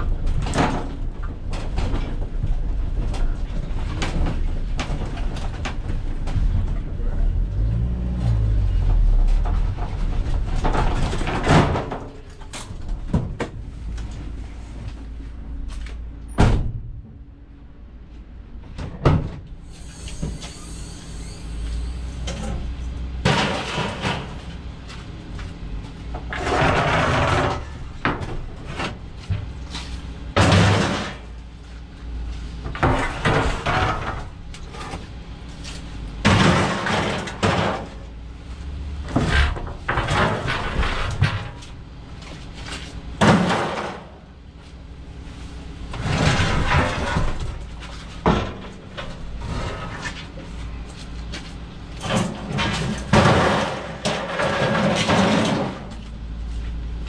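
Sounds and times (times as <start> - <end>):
scrap metal banging and scraping: 0.1 - 15.4, 18.8 - 44.3, 45.9 - 56.6.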